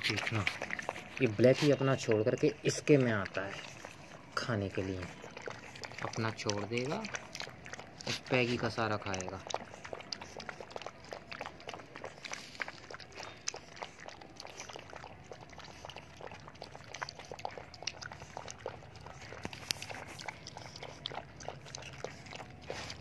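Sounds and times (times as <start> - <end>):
puppies lapping porridge: 0.0 - 23.0.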